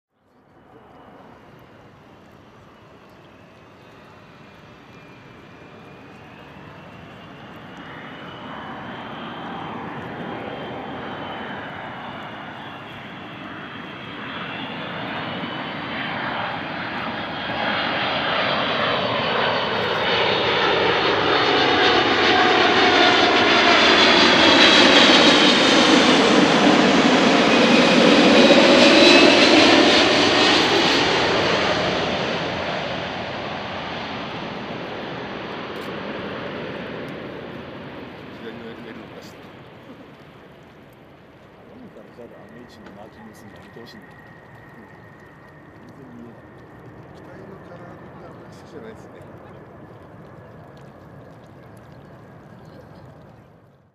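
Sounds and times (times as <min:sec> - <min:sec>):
engine whine bending downward: 0:00.3 - 0:53.9
airliner jet engines roaring: 0:00.5 - 0:53.7.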